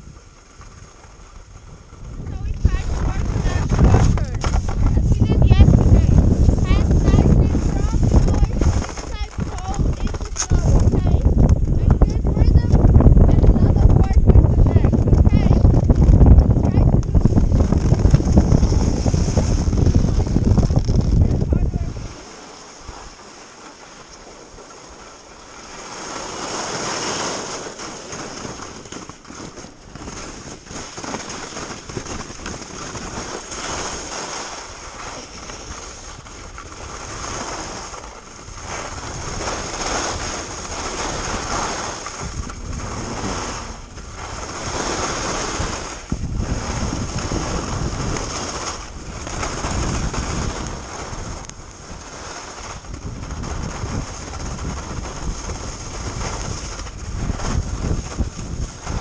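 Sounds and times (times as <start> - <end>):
wind on microphone: 0.0 - 23.3, 24.9 - 59.0
skis scraping over snow: 0.0 - 59.0.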